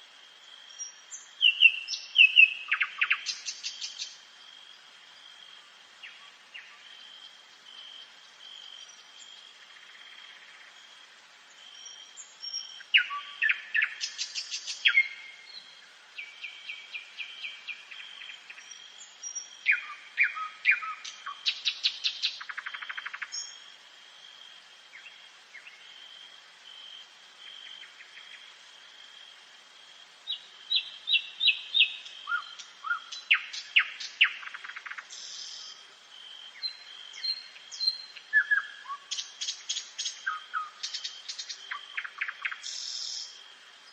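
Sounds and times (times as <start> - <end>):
nightingale singing: 0.0 - 10.9, 11.5 - 26.0, 30.2 - 43.9.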